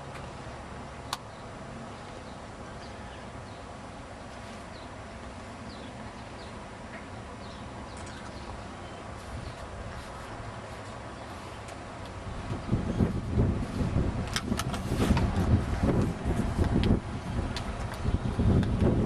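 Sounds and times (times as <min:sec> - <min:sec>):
low background noise: 0:00.0 - 0:18.6.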